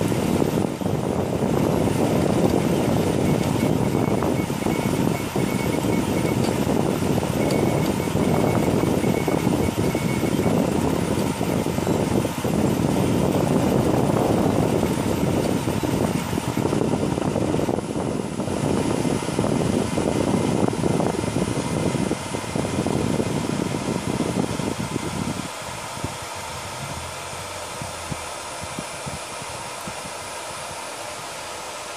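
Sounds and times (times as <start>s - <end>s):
printer motors and fans: 0.0s - 31.9s.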